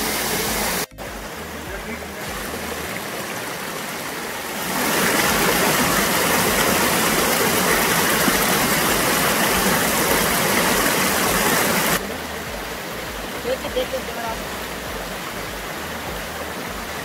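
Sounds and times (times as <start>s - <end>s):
water rushing down rocks: 0.0s - 17.0s.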